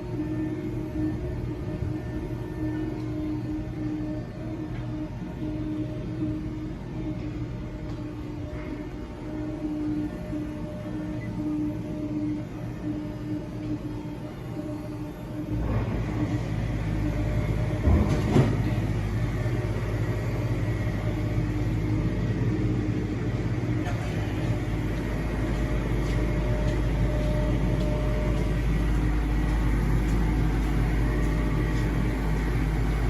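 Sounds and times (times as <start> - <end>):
car wash machine hum: 0.0 - 33.0.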